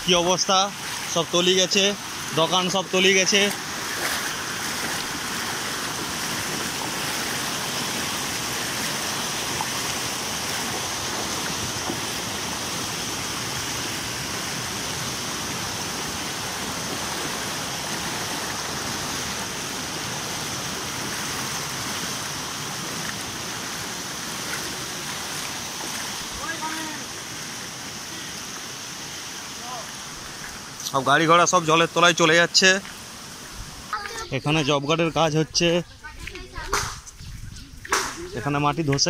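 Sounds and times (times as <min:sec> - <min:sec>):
floodwater flowing across road: 0:00.0 - 0:39.0.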